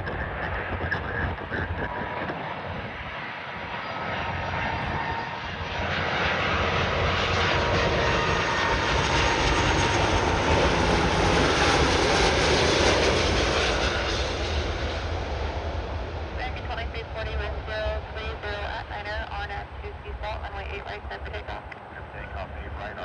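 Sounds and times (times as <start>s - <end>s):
jet aircraft rushing past: 0.0s - 23.0s.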